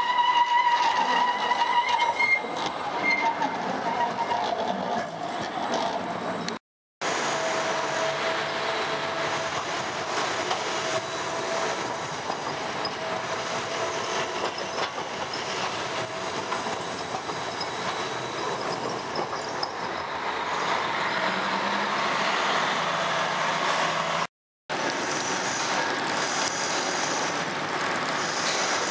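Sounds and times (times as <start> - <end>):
tram wheels rumbling on rail: 0.0 - 28.9.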